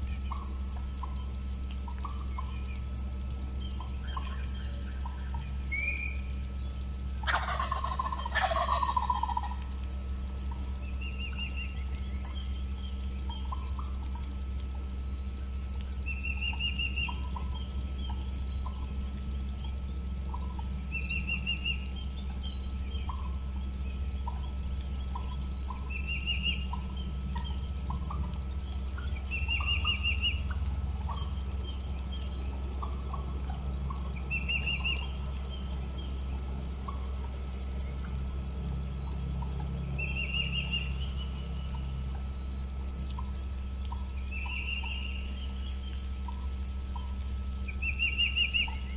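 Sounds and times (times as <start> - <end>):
soft bird chirps: 0.0 - 48.9
steady low hum: 0.0 - 48.9
bird rattling trills: 0.2 - 9.6, 16.0 - 48.9.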